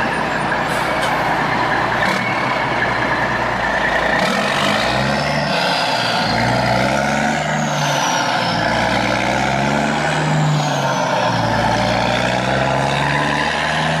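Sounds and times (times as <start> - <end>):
heavy truck engine running: 0.0 - 14.0.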